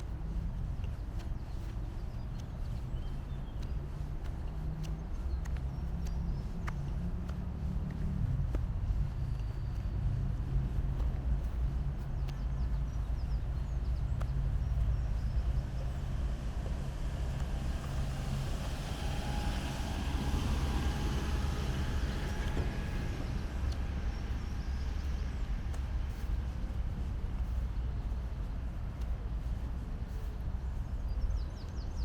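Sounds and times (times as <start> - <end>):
low city rumble: 0.0 - 32.0
vehicle passing: 0.0 - 32.0.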